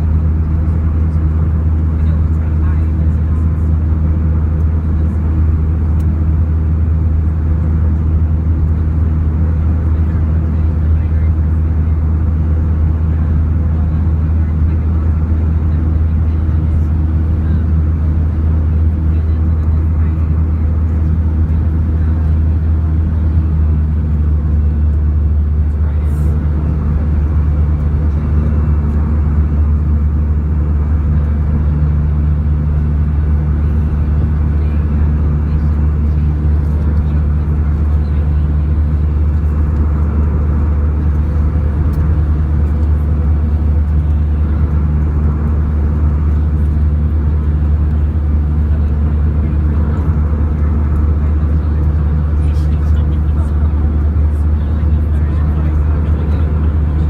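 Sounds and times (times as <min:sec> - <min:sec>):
jet engines rumbling in cabin: 0:00.0 - 0:57.0
low hums: 0:00.0 - 0:57.0.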